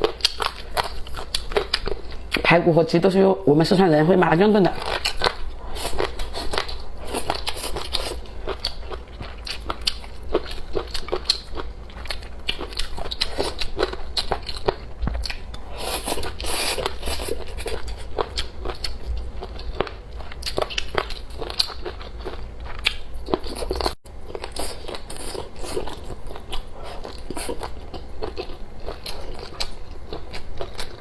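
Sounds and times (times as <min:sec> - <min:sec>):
chewing and crunching food: 0:00.0 - 0:02.5, 0:04.6 - 0:31.0.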